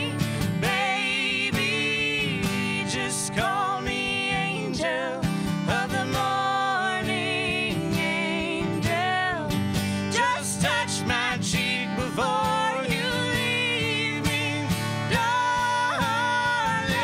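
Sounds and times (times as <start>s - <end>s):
acoustic guitar strumming: 0.0s - 17.0s
man and woman singing duet: 0.0s - 17.0s.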